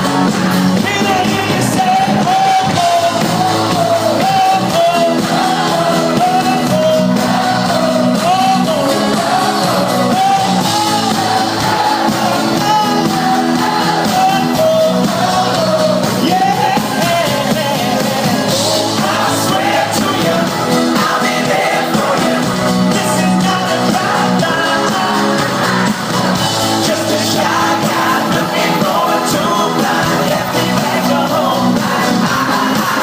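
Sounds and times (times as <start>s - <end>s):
live band playing: 0.0s - 33.0s
person singing lead vocal: 0.0s - 33.0s.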